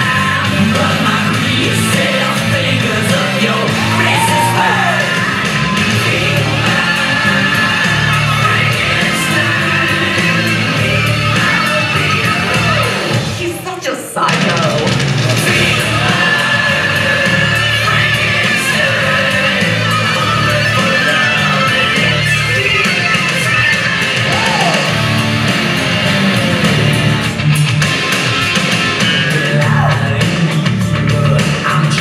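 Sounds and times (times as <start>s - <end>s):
loud rock music with electric guitar: 0.0s - 13.6s, 14.2s - 32.0s.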